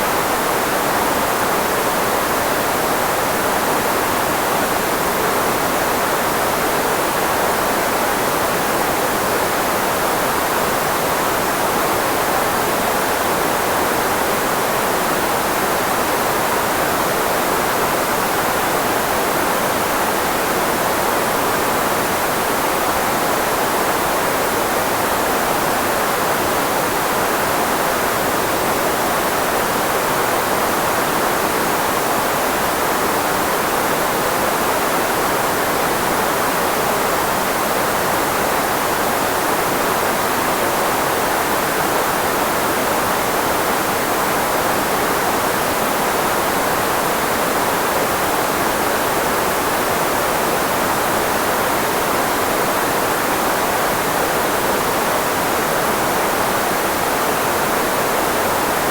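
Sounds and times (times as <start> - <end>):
filtered white noise hiss: 0.0 - 58.9.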